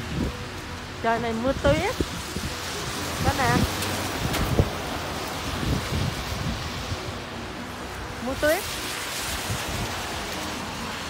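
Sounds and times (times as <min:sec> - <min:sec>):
rain and sleet falling: 0:00.0 - 0:11.0
wind buffeting microphone: 0:01.2 - 0:11.0.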